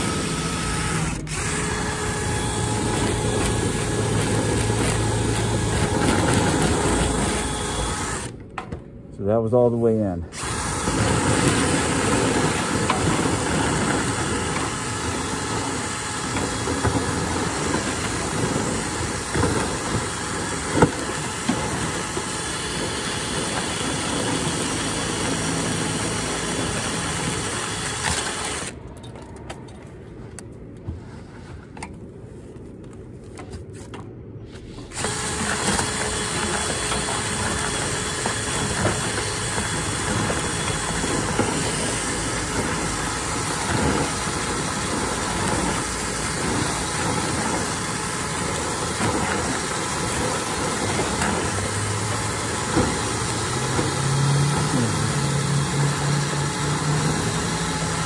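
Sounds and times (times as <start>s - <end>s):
power drill whirring: 0.0s - 8.5s, 10.3s - 28.8s, 34.7s - 58.0s.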